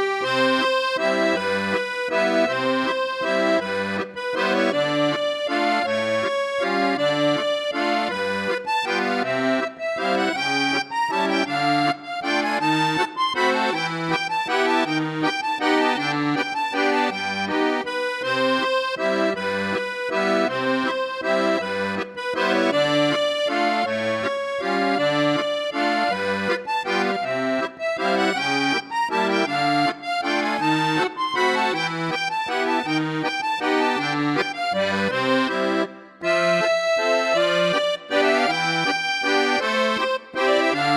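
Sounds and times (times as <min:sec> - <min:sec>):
accordion music: 0:00.0 - 0:40.9.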